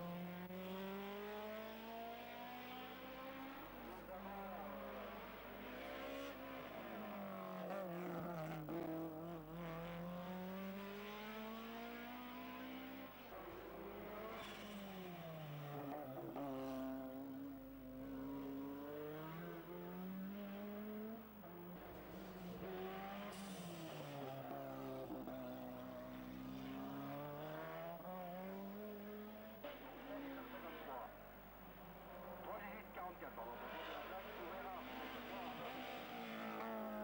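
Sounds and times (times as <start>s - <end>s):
race car engines at full throttle: 0.0s - 37.0s.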